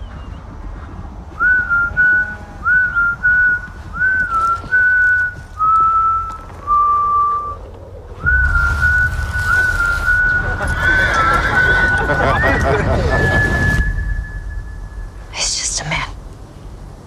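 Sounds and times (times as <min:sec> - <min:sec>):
steady low rumble: 0:00.0 - 0:17.0
man whistling slow tune: 0:01.4 - 0:15.2.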